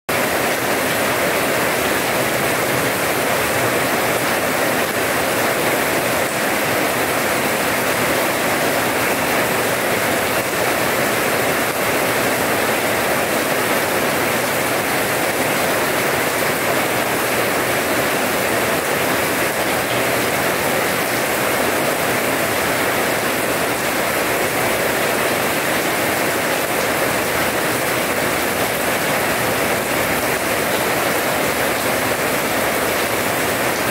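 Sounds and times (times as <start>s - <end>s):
rain on paved ground: 0.1s - 33.9s.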